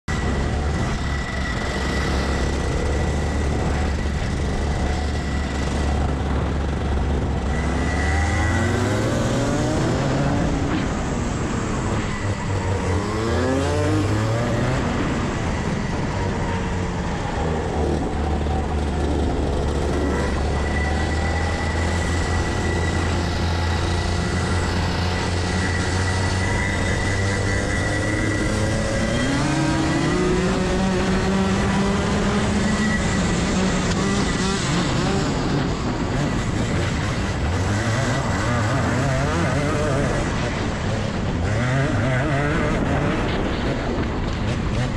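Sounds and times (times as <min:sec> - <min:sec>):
kart engine revving: 0:00.1 - 0:44.9.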